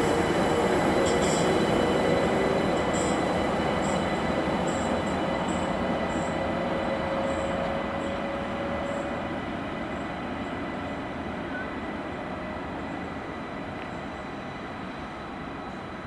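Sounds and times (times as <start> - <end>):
train rumbling on tracks: 0.0 - 16.0.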